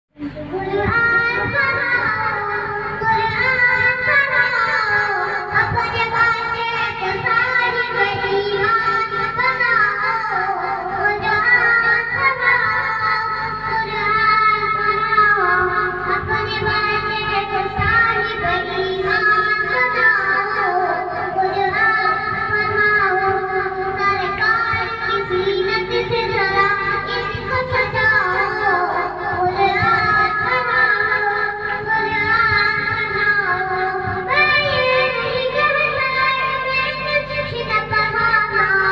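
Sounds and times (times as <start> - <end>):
boy singing through a speaker: 0.1 - 38.9.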